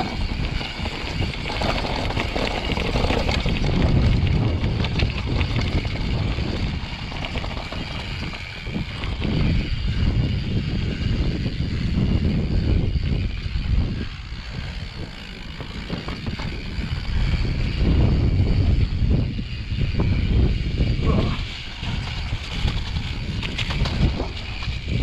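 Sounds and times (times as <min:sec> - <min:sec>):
bike rattling and knocking: 0:00.0 - 0:25.0
bike tyre noise on dirt: 0:00.0 - 0:25.0
wind rumbling on microphone: 0:00.0 - 0:25.0.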